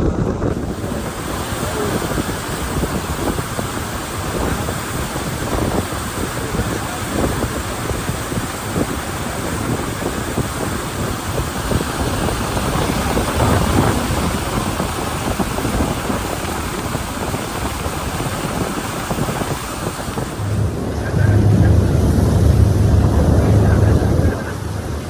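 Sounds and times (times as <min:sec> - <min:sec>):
wind and sea water rushing: 0:00.0 - 0:25.0
wind buffeting microphone: 0:00.0 - 0:25.0.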